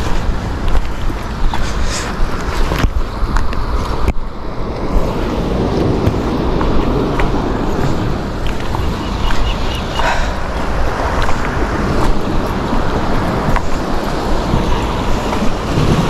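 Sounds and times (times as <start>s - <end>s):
sea surf on rocks: 0.0s - 16.0s
wind buffeting microphone: 0.0s - 16.0s.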